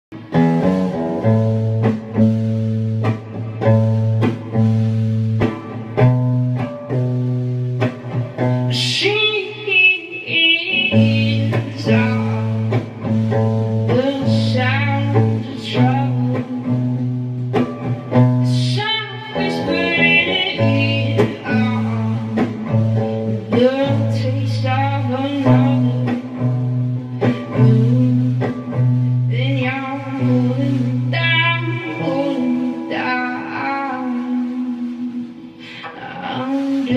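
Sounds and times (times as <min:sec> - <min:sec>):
electric guitar strumming chords: 0:00.1 - 0:36.9
high guitar melody with bends: 0:00.1 - 0:36.9.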